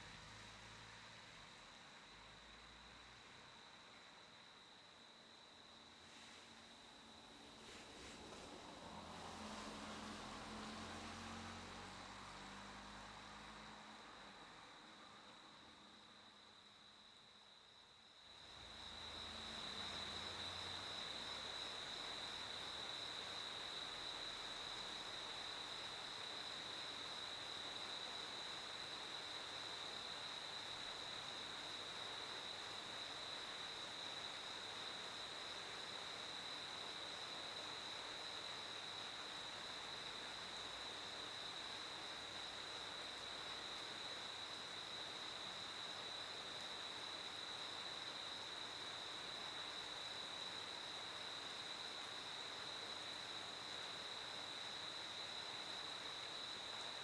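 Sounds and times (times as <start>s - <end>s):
crickets trilling: 8.6s - 57.0s.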